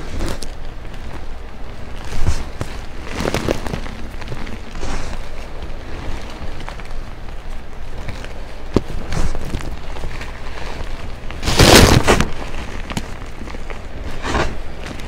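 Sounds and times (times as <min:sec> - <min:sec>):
sharp crack: 0:00.0 - 0:15.0.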